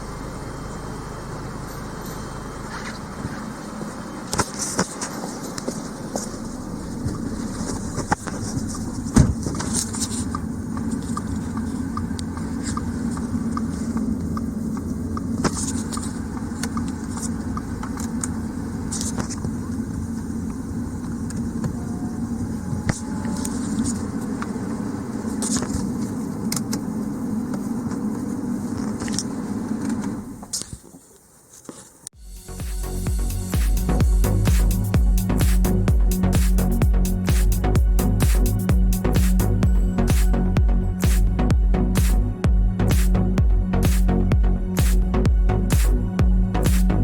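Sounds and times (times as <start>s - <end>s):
car engine idling with ticking: 0.0s - 30.6s, 32.3s - 47.0s.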